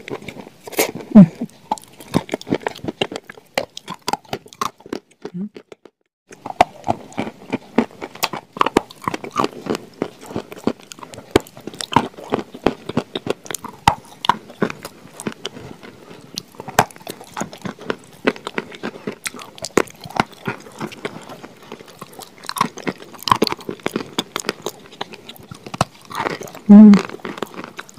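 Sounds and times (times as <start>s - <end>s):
crunchy biting and chewing: 0.0s - 27.9s.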